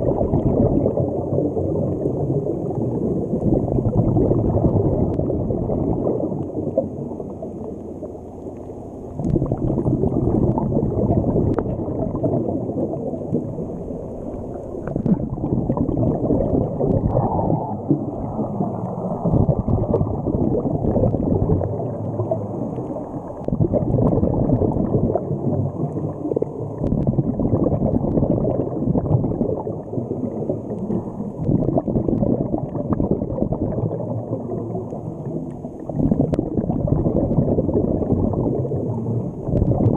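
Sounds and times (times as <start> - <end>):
muffled underwater rushing water: 0.0 - 39.9.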